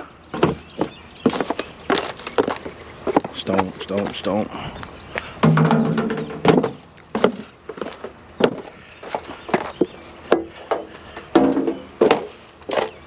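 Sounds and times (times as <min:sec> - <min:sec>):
boot stomping on thin metal: 0:00.3 - 0:04.2, 0:05.4 - 0:13.0.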